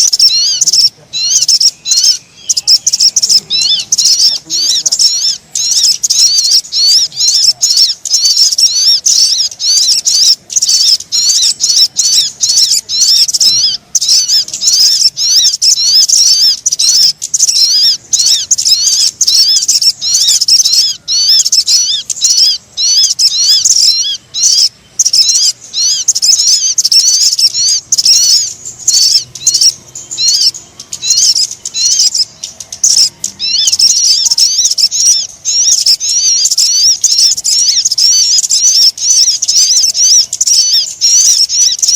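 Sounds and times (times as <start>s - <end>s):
high-pitched twittering bird chirps: 0.0s - 41.9s.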